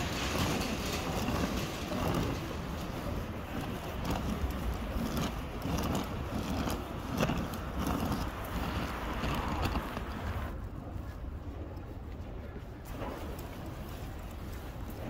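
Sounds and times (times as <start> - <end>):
suitcase wheels on asphalt: 0.0 - 15.0
wind buffeting microphone: 0.0 - 15.0.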